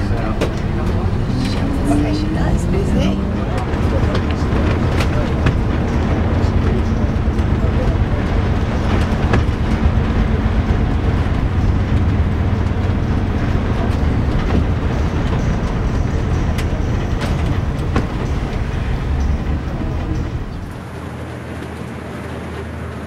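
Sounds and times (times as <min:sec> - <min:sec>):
bus body and windows rattling: 0:00.0 - 0:23.0
bus engine drone: 0:00.0 - 0:23.0.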